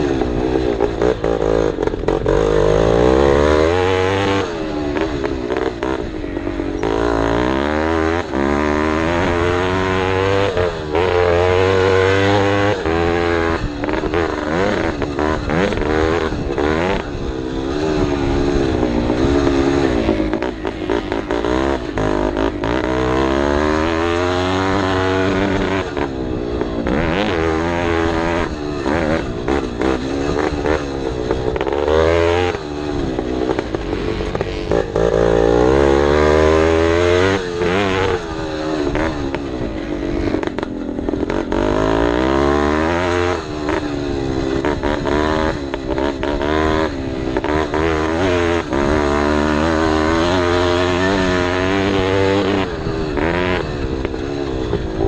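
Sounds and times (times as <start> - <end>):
clatter of riding on rough dirt: 0.0 - 55.0
motocross bike engine revving: 0.0 - 55.0.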